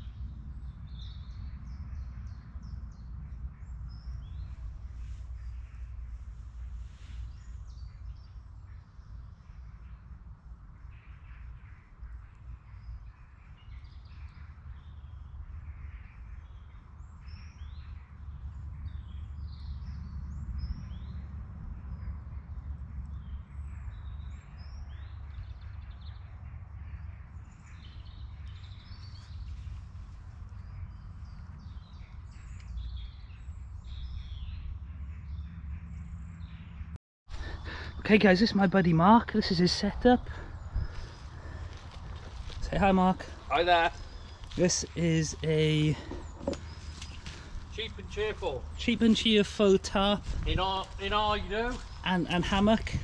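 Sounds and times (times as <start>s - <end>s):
steady low rumble: 0.0s - 38.1s, 39.2s - 53.0s
birds chirping and singing: 0.0s - 53.0s.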